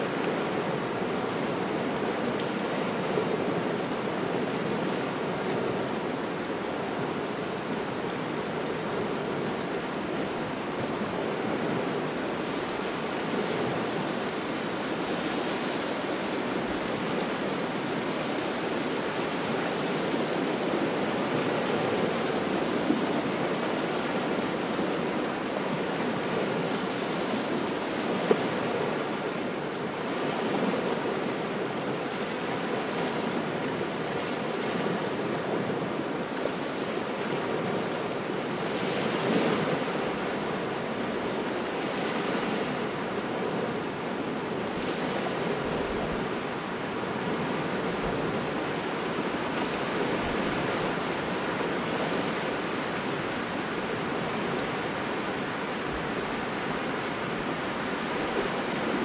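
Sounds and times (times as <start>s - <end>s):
small waves washing onto shore: 0.0s - 59.0s
wind: 0.0s - 59.0s.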